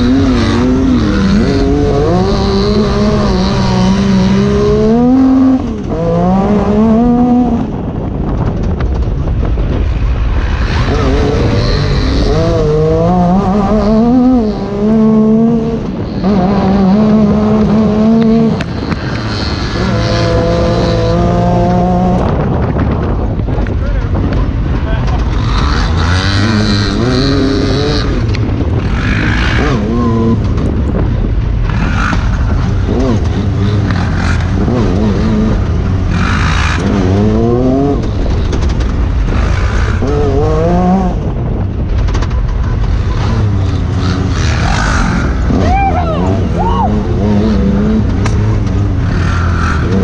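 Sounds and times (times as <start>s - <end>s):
engine revving under throttle: 0.0s - 8.0s, 10.2s - 23.2s, 24.7s - 50.0s
heavy low rumble: 0.0s - 50.0s.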